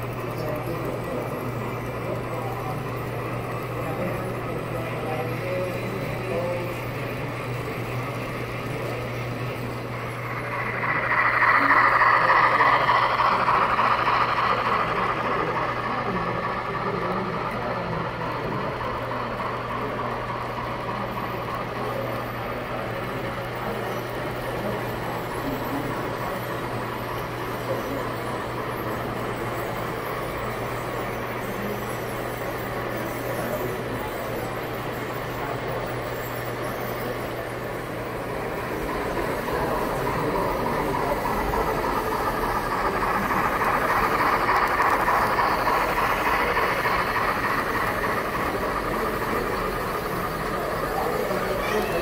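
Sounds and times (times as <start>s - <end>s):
model train wheels rattling: 0.0s - 52.0s.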